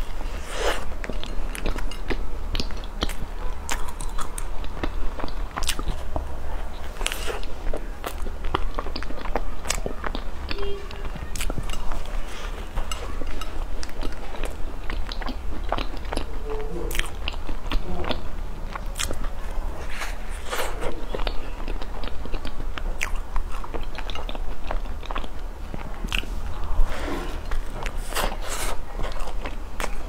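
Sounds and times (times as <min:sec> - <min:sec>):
biting and chewing pastry: 0:00.0 - 0:30.0.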